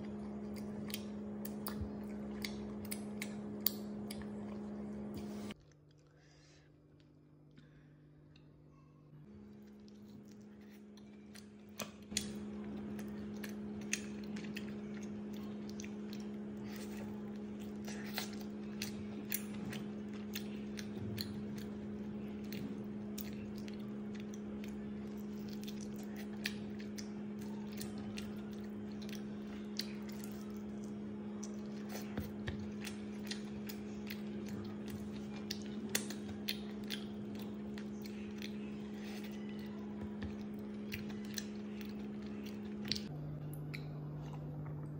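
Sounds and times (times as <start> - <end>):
chewing fried chicken: 0.0 - 7.7, 9.3 - 44.9
steady low hum: 0.0 - 44.9.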